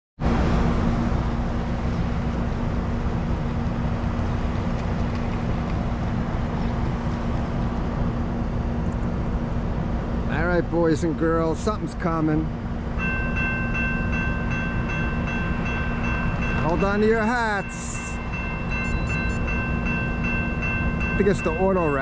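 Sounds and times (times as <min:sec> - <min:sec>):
low-pitched hum: 0:00.2 - 0:10.3, 0:12.5 - 0:21.9
loud background rumble: 0:00.2 - 0:22.0.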